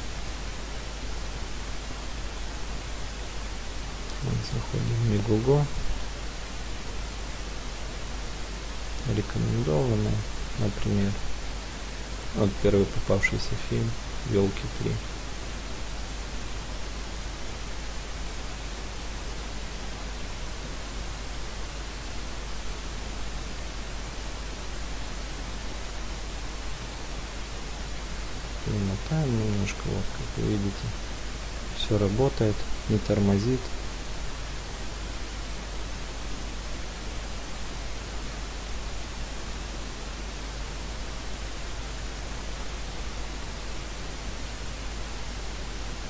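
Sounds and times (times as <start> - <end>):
static hiss: 0.0 - 46.0.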